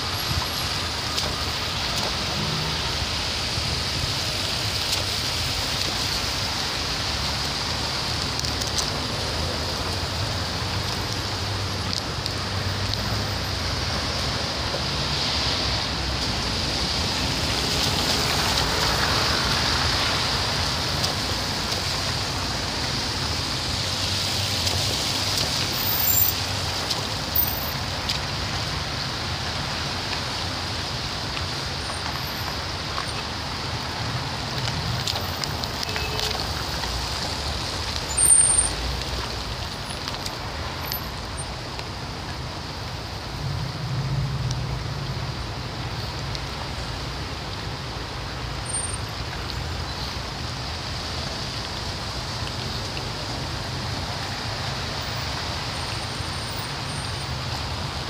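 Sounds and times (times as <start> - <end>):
low rumble of engines: 0.0 - 58.0
tyres hissing on wet road: 0.0 - 58.0.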